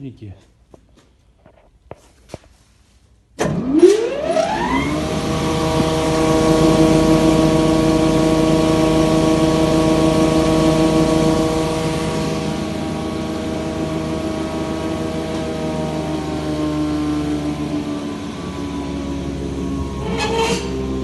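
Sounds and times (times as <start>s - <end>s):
thickness planer motor whining: 3.4s - 21.0s.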